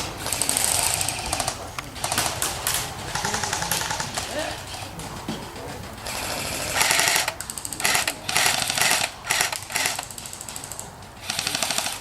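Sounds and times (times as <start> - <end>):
airsoft guns firing full-auto bursts: 0.0 - 12.0.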